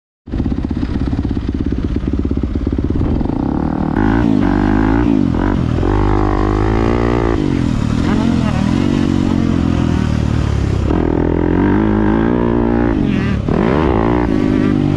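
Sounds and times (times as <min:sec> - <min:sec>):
motorcycle engine revving: 0:00.3 - 0:14.9.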